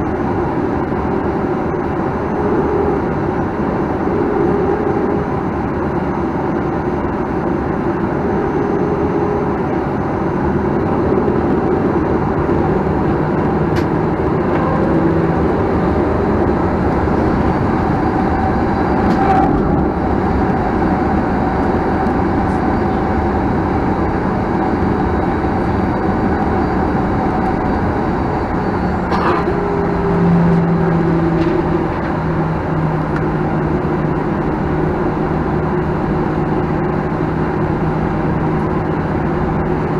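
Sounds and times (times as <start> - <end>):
airplane cabin engine hum: 0.0 - 39.9.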